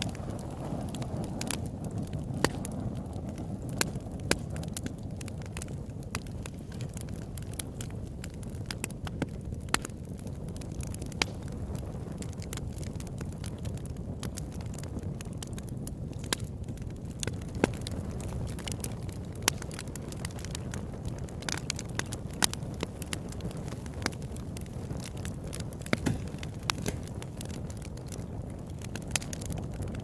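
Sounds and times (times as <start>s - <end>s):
flame rushing: 0.0s - 30.0s
wood crackling and popping: 0.0s - 30.0s.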